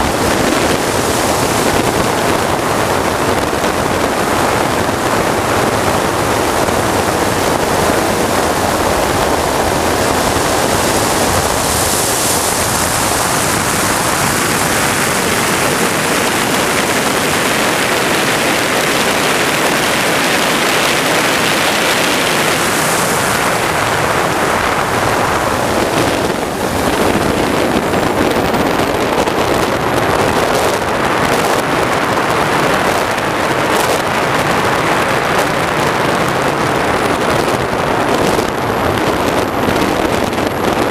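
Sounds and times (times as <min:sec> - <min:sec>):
jet turbine engine running: 0:00.0 - 0:40.9
wind noise: 0:00.0 - 0:40.9.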